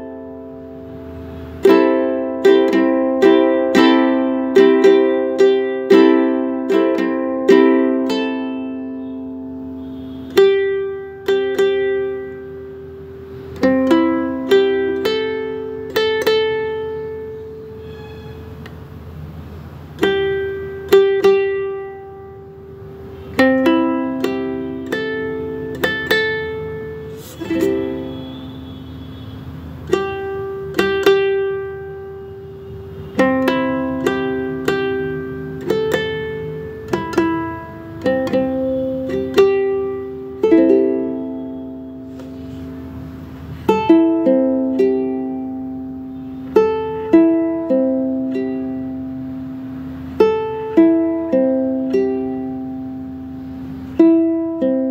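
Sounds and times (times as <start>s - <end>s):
plucked-string music: 0.0s - 54.9s.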